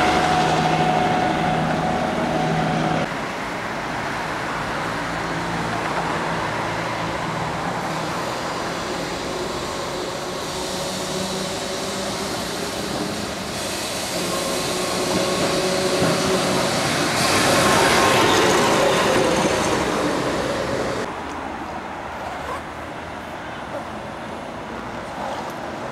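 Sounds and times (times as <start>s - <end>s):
train rumbling: 0.0s - 21.2s.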